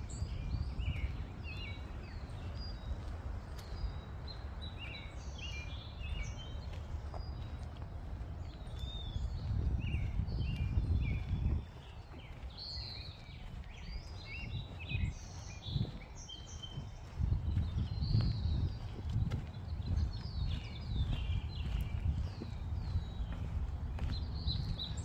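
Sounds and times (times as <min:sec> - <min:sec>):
birds chirping and singing: 0:00.0 - 0:25.0.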